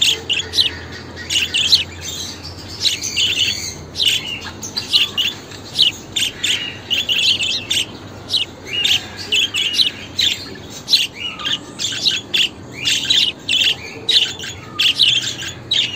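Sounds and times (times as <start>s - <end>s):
budgerigars chattering and chirping: 0.0s - 15.9s.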